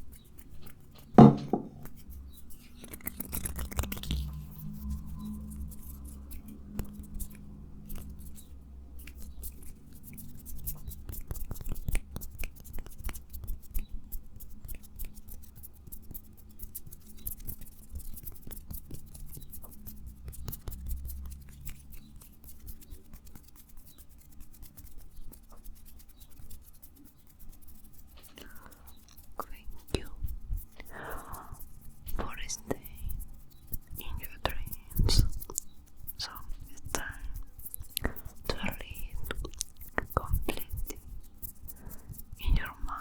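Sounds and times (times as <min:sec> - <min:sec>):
crisp clicks and scratching taps: 0:00.0 - 0:43.0.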